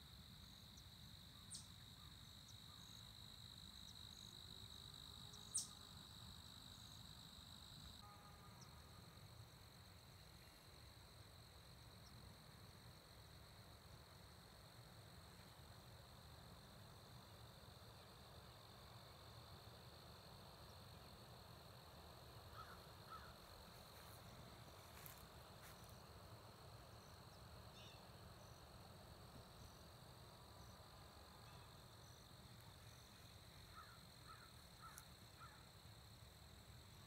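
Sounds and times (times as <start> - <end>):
high insect drone: 0.1 - 37.0.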